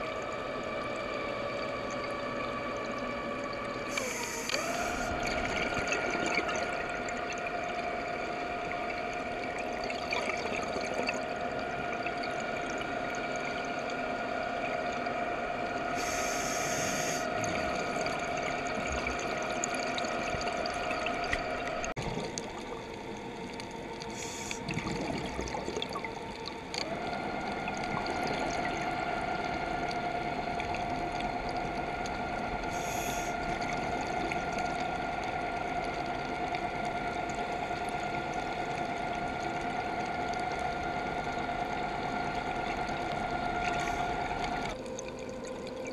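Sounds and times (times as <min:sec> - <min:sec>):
scuba exhaust bubbles hissing: 0:00.0 - 0:45.9
underwater motor whining: 0:00.0 - 0:45.9.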